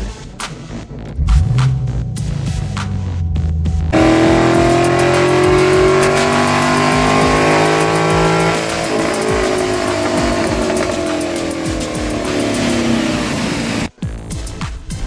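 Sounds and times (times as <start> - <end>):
car engine at high revs: 1.1 - 13.9.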